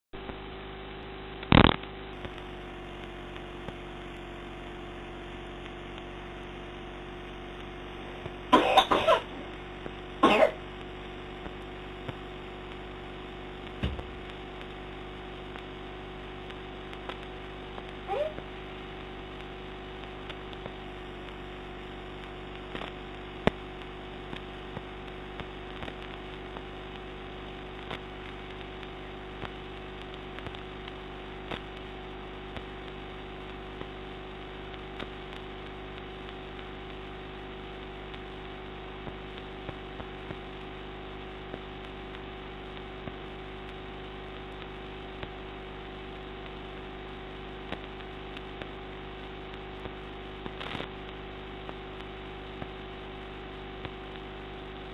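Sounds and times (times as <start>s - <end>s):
electrical hum and hiss: 0.2s - 54.9s.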